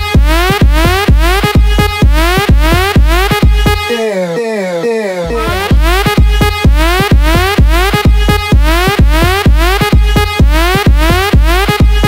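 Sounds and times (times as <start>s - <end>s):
kick drum beat: 0.0s - 3.9s, 5.4s - 12.0s
electronic dance music: 0.0s - 12.0s.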